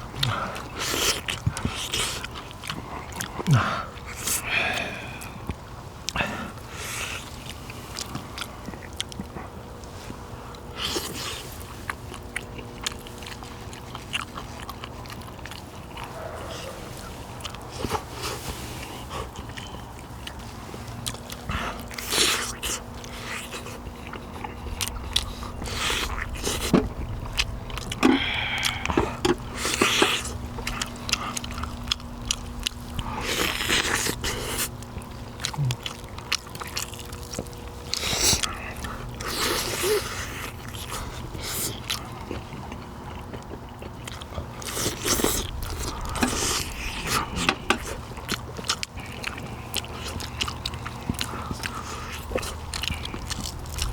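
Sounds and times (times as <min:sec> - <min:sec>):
chewing and biting meat: 0:00.0 - 0:53.9
steady low hum: 0:00.0 - 0:53.9
lip smacking: 0:10.6 - 0:53.9.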